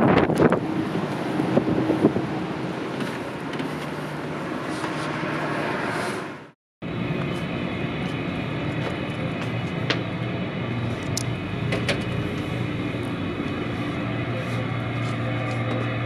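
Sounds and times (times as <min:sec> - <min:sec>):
ship engines droning: 0:00.0 - 0:16.0.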